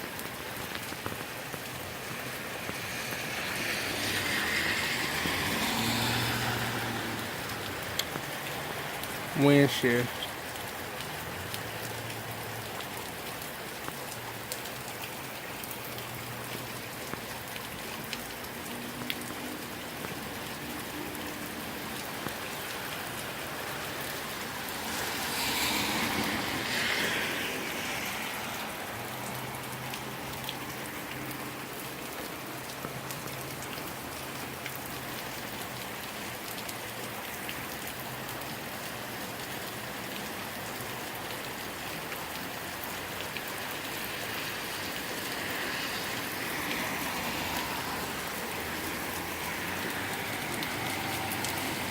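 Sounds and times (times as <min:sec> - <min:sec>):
heavy rain falling: 0:00.0 - 0:51.9
raindrop ticks: 0:00.0 - 0:51.9.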